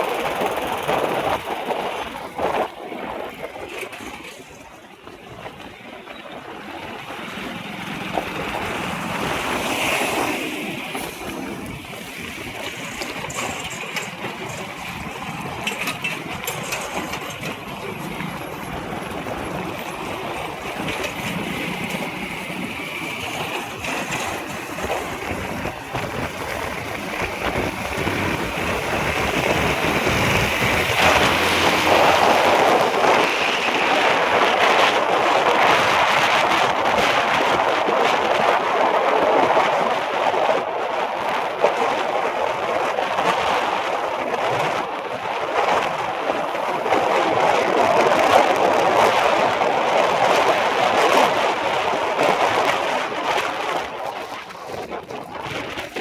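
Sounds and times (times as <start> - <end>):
road traffic rushing: 0.0 - 56.0.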